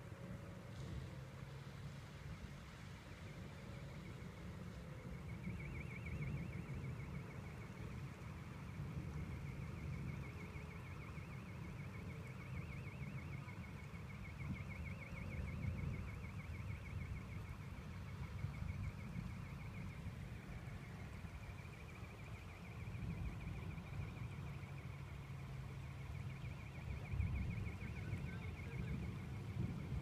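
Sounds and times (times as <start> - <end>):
electronic alarm warbling: 3.8 - 30.0.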